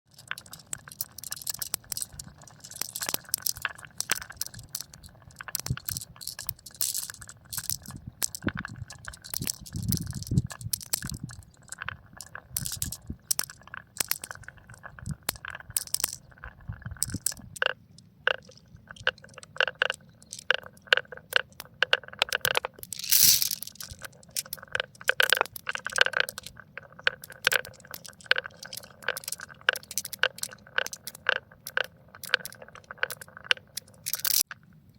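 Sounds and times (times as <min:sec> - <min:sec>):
marbles clattering down track: 0:00.1 - 0:34.4.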